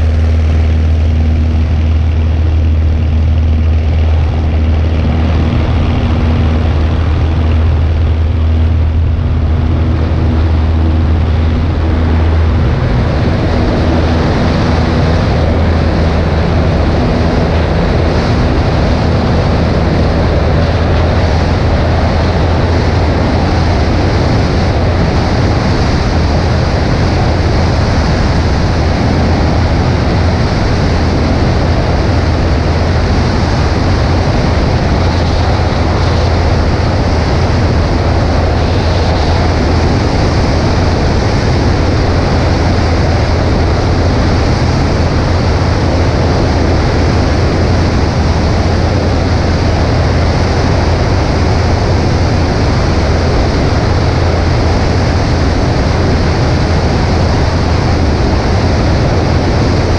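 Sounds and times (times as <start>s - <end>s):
airplane engine droning: 0.0s - 59.9s
wind noise rushing: 0.0s - 59.9s.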